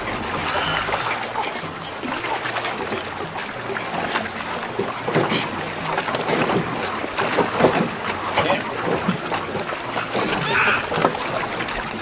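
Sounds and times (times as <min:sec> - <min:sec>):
water splashing against hull: 0:00.0 - 0:12.0.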